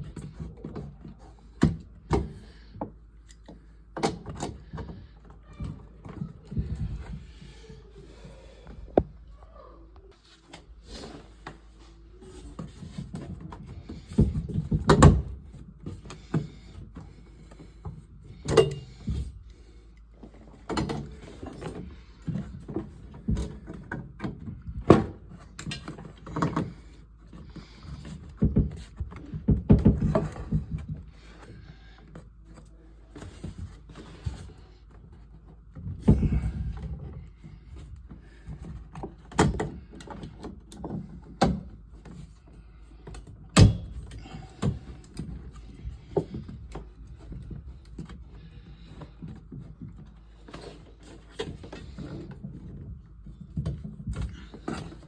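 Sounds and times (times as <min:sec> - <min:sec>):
knocks and clunks of tools: 0:00.0 - 0:07.4, 0:12.3 - 0:19.4, 0:20.3 - 0:34.5, 0:35.4 - 0:55.0.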